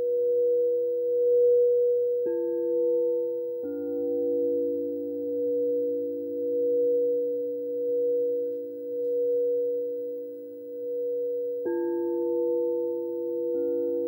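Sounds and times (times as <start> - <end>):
crystal singing bowls ringing: 0.0 - 14.0.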